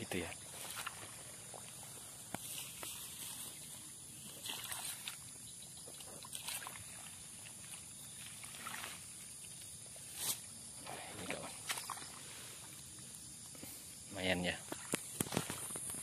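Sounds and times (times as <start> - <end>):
sloshing through swamp water: 0.2 - 16.0.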